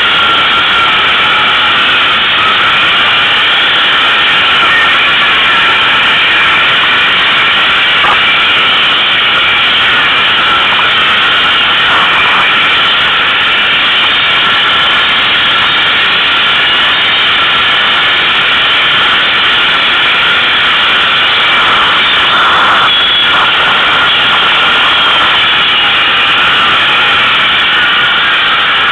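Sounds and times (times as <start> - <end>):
quad engine droning: 0.0 - 28.9.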